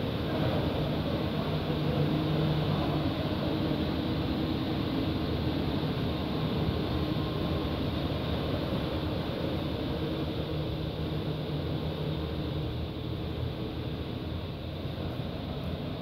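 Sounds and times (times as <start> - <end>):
faint steady hums: 0.0 - 16.0
machine drone with hiss: 0.0 - 16.0.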